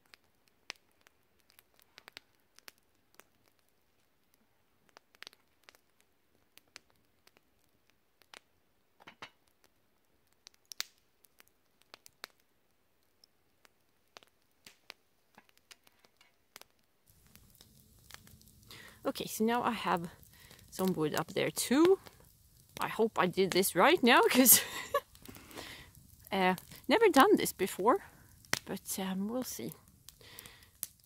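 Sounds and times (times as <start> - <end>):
burning wood popping: 0.0 - 31.0
campfire crackling: 0.0 - 31.0.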